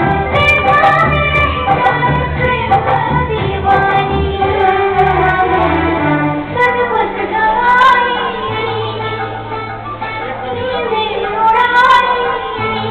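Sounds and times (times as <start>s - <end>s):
instrumental backing with bass: 0.0s - 12.9s.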